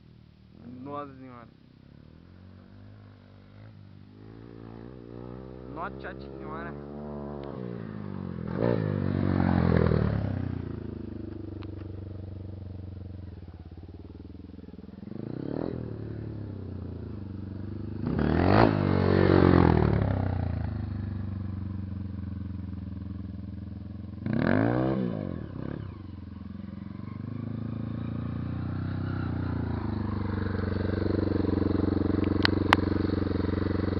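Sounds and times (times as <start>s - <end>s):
motorcycle engine running steadily: 0.0s - 33.9s
dirt bikes revving past: 2.2s - 11.3s, 14.8s - 23.2s, 24.0s - 33.9s.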